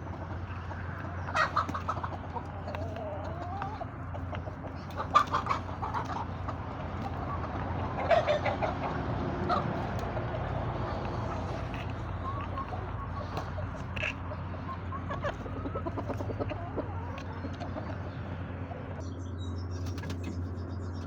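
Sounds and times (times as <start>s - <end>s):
chickens clucking: 0.0s - 21.0s
steady low hum: 0.0s - 21.0s.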